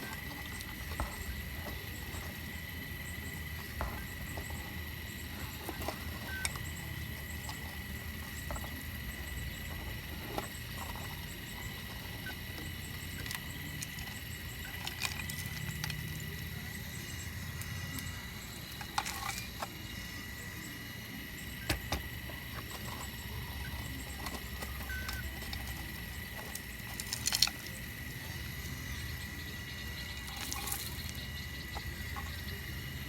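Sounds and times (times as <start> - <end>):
digging machine engine rumble: 0.0 - 33.0
high machine whine: 0.0 - 33.0.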